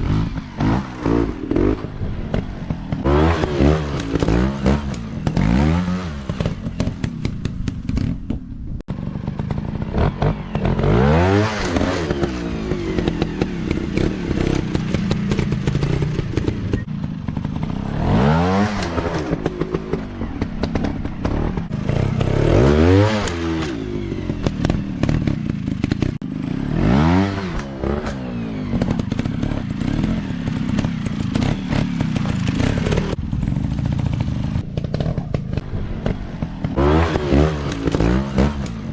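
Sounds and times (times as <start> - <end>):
dirt bike engines revving: 0.0 - 8.0, 8.9 - 38.9.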